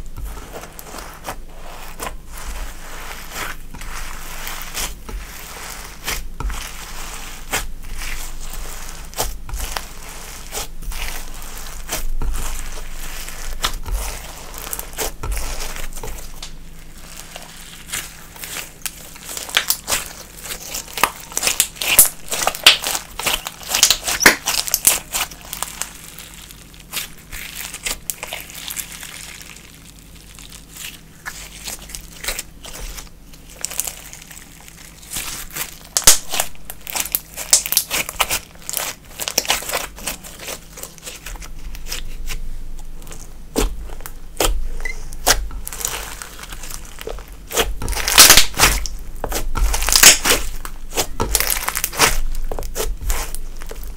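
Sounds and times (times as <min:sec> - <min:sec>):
slime squishing and crackling: 0:00.0 - 0:53.9.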